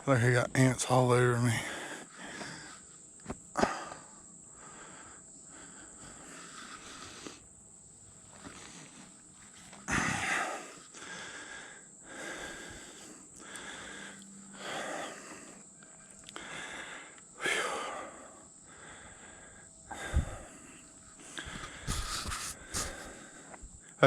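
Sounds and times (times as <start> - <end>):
man breathing heavily: 1.2 - 7.5, 8.3 - 24.0.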